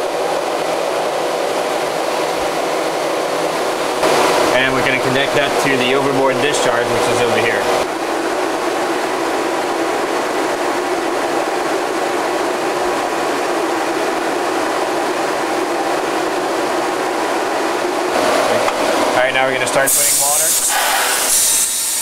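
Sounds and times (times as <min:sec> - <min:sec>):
engine room machinery hum: 0:00.0 - 0:22.0.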